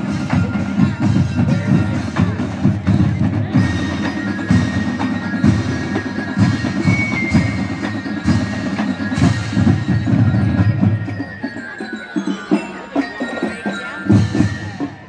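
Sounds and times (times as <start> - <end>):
marching band drums: 0.0 - 15.0.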